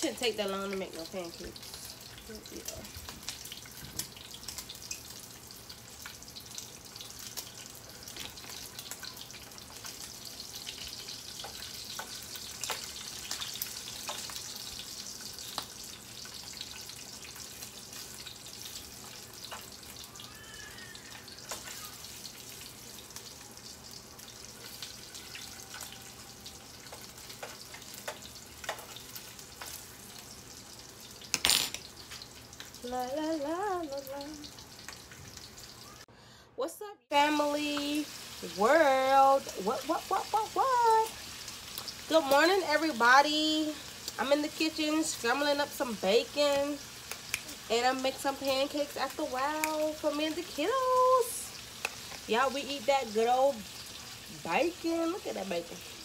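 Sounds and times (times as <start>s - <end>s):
food sizzling in a pan: 0.0s - 36.1s, 37.1s - 56.0s.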